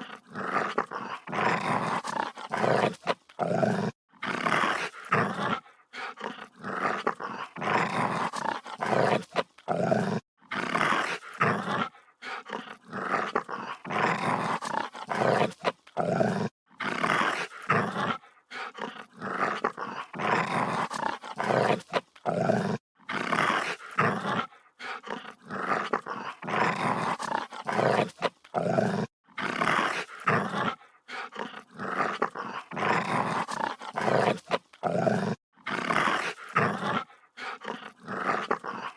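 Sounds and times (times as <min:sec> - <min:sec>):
dog growling: 0:00.0 - 0:38.9.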